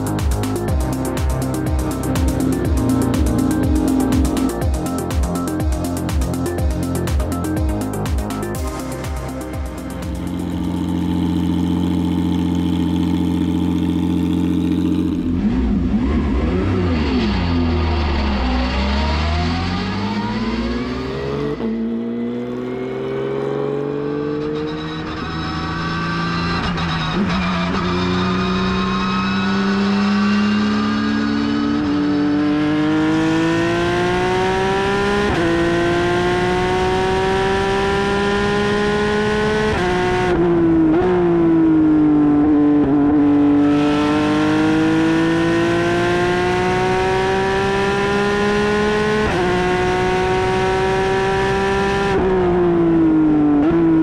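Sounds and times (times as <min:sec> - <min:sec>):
race car engine revving through gears: 0:10.0 - 0:54.0.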